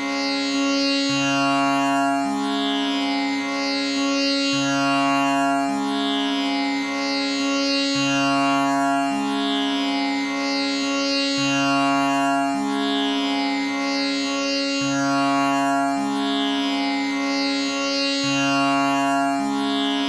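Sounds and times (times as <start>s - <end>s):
tanpura drone: 0.0s - 20.0s.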